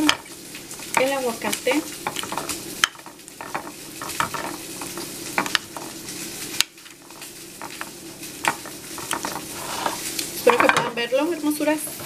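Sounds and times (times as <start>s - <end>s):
fork mashing avocado: 0.0s - 10.0s.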